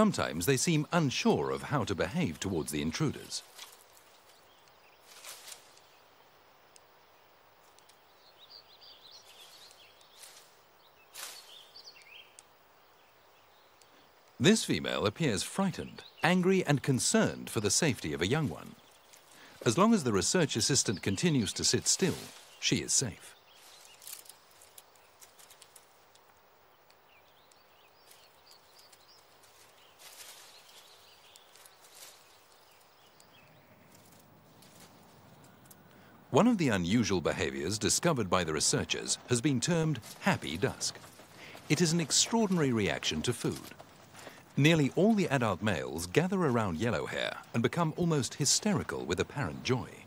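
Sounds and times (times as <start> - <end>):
faint forest ambience: 0.0 - 50.0
rustles: 0.0 - 50.0
bird chirps: 7.1 - 26.0, 26.7 - 50.0.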